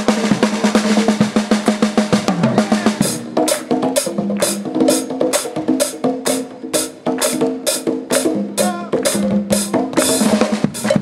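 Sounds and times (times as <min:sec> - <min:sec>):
live funk band playing: 0:00.0 - 0:11.0.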